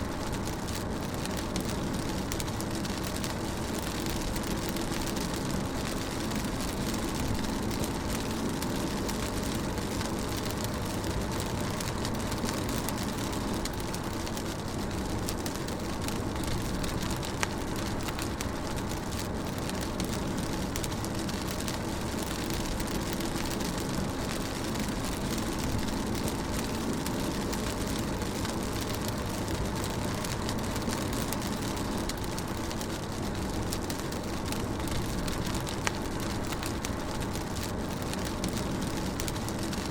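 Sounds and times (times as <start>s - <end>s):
rain drumming on a car: 0.0s - 39.9s.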